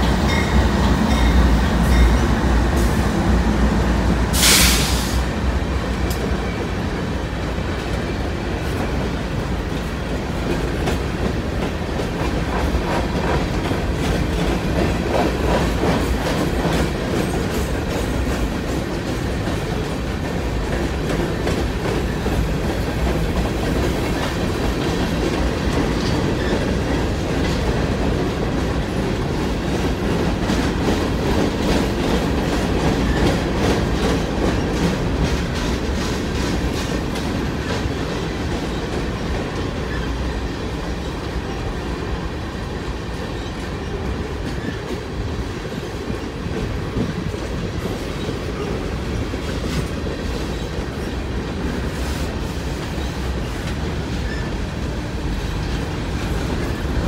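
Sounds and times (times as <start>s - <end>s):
clickety-clack over rail joints: 0.0s - 57.0s
steel wheels rumbling on rails: 0.0s - 57.0s.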